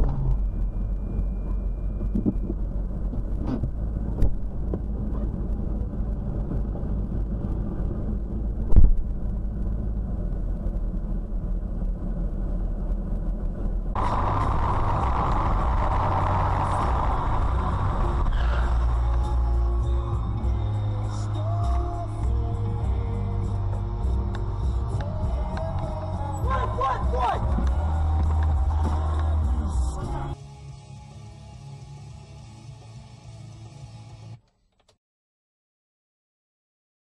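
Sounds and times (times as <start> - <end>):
car engine idling: 0.0 - 30.4
traffic noise: 0.0 - 30.4.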